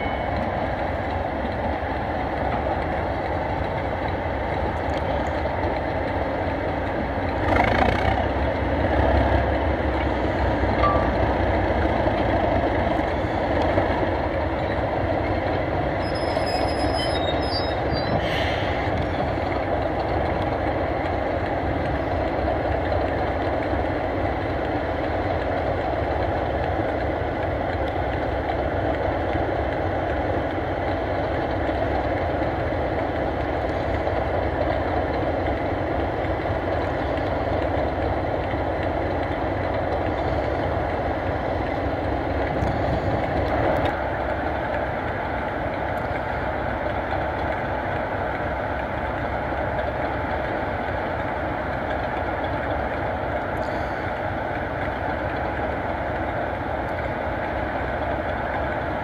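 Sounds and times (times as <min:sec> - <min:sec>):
diesel locomotives running: 0:00.0 - 0:59.0.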